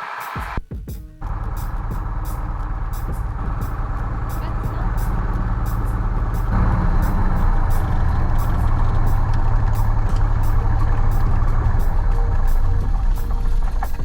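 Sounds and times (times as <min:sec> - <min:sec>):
airplane engine low drone: 0:01.2 - 0:14.0
faint regular ticking: 0:01.2 - 0:14.0.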